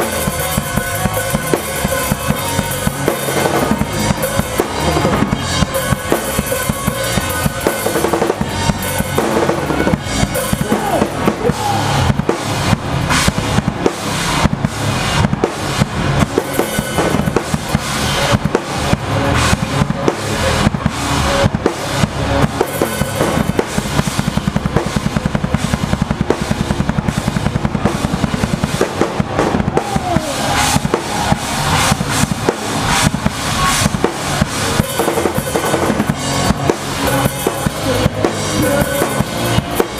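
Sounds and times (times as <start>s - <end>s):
fast drum beat with cymbals: 0.0s - 39.9s
pop punk band playing live: 0.0s - 39.9s.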